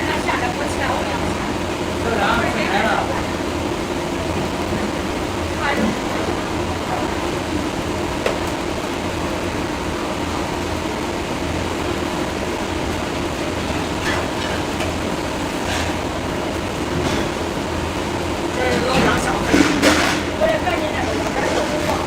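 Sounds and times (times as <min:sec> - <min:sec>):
mechanical rumble and hiss: 0:00.0 - 0:22.0.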